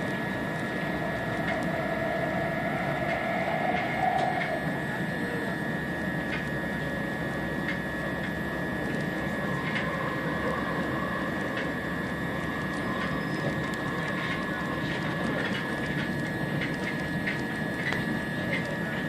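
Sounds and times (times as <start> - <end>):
high whine: 0.0 - 19.0
train wheels rumbling on track: 0.0 - 19.0.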